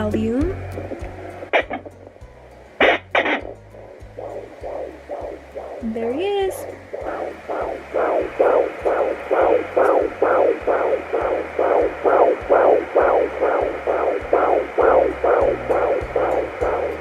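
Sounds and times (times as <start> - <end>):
fetal heartbeat on doppler speaker: 0.0 - 2.2, 2.8 - 17.0.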